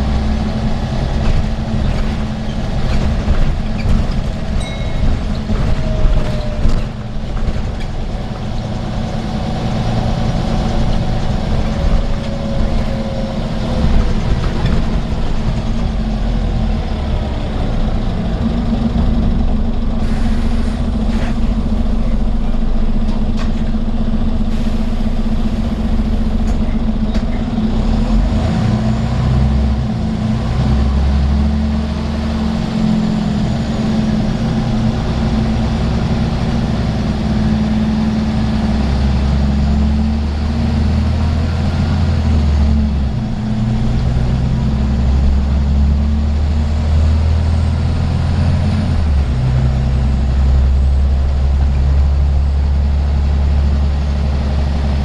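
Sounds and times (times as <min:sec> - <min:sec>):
bus diesel engine droning: 0:00.0 - 0:55.0
road and tyre noise: 0:00.0 - 0:55.0.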